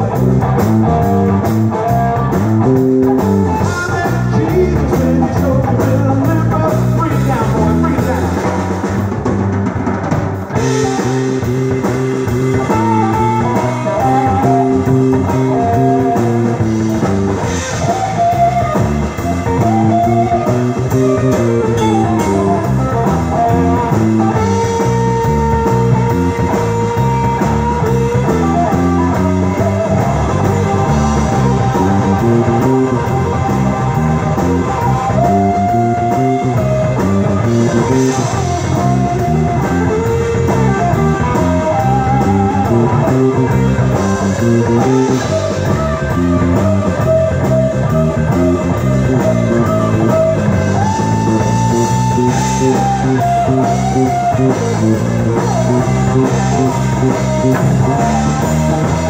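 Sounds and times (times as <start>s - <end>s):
bass guitar: 0.0s - 59.0s
drums: 0.0s - 59.0s
electric guitar lead lines: 0.0s - 59.0s.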